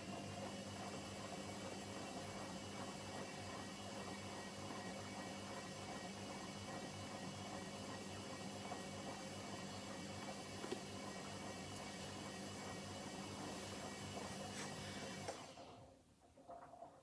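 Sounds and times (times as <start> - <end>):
washing machine drum whirring: 0.0 - 17.0.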